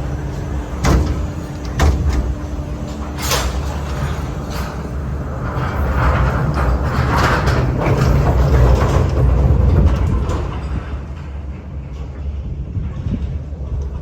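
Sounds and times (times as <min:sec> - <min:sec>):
gondola cable rumble: 0:00.0 - 0:14.0.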